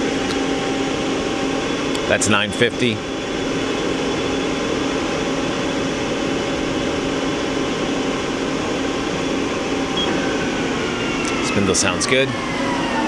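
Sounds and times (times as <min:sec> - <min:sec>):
lathe spindle running with hum: 0:00.0 - 0:13.0.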